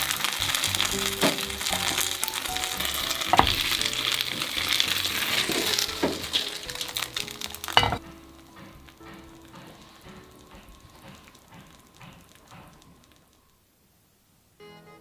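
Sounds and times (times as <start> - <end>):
dumplings sizzling in oil: 0.0 - 13.5.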